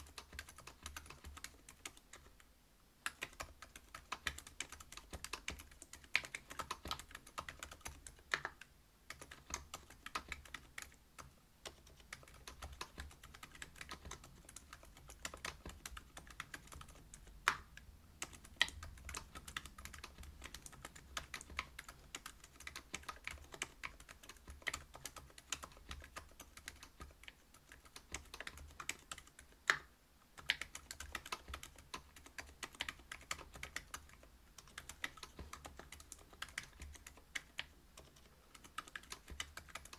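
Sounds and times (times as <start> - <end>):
typing on mechanical keyboard: 0.0 - 2.4, 3.0 - 39.9.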